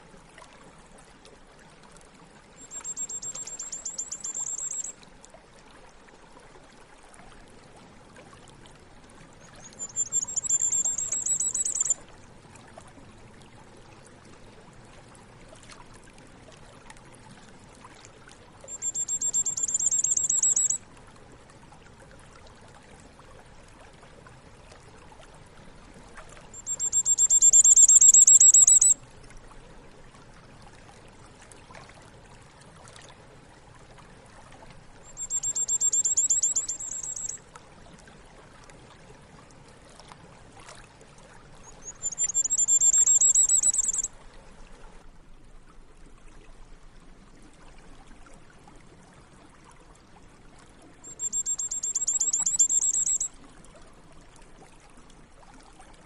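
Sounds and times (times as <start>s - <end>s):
faint trickle of water: 0.0s - 56.0s.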